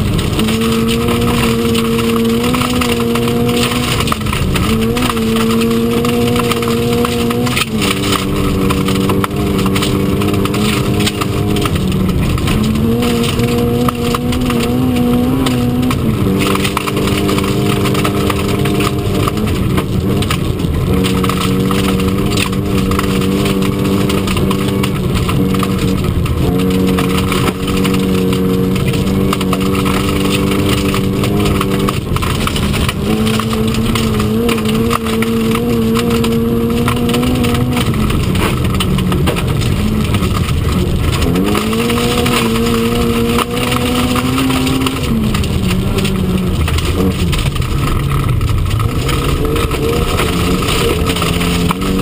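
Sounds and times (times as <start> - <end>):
car engine revving: 0.0 - 52.0
tyres on gravel: 0.0 - 52.0.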